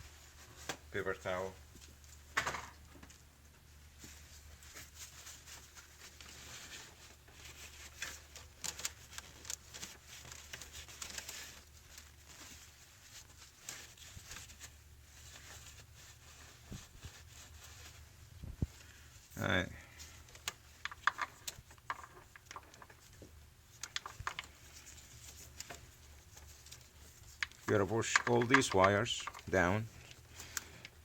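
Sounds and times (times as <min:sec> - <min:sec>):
paper towel rustling: 0:00.0 - 0:31.0.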